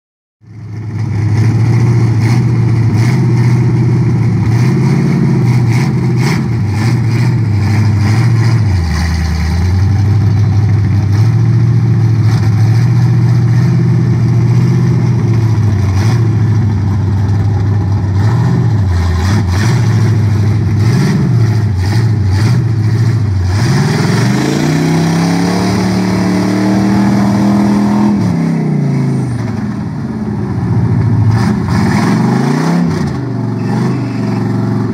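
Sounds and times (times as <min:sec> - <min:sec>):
truck engine revving: 0:00.7 - 0:34.9.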